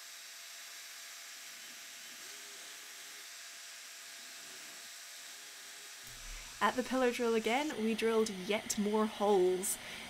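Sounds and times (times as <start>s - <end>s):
cordless drill spinning: 0.0s - 10.0s.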